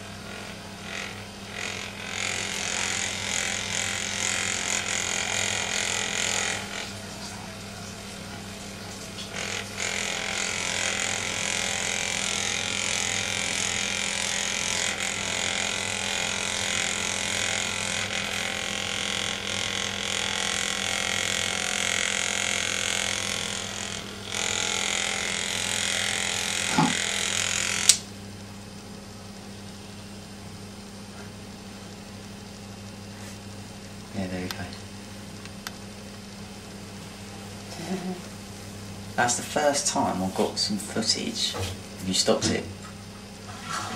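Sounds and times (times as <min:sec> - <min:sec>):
massager motor buzzing: 0:00.0 - 0:43.9.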